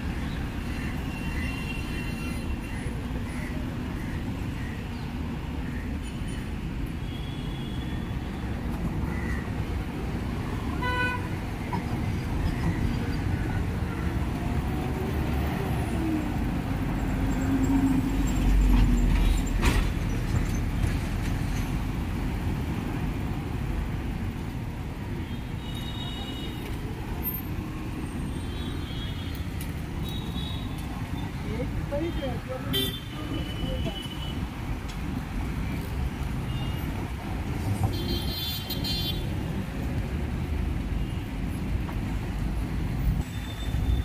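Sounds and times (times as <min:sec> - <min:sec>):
traffic rumble: 0:00.0 - 0:44.0.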